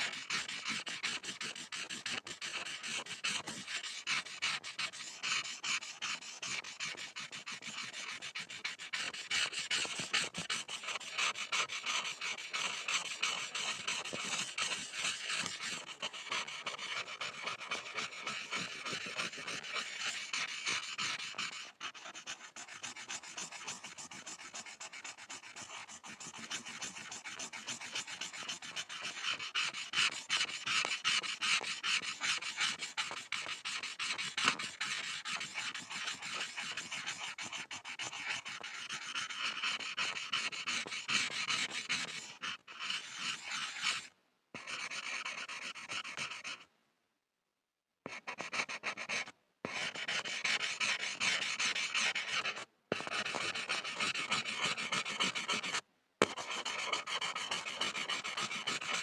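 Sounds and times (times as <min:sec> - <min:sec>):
pencil scribbling on a board: 0:00.0 - 0:46.7, 0:48.1 - 0:59.0.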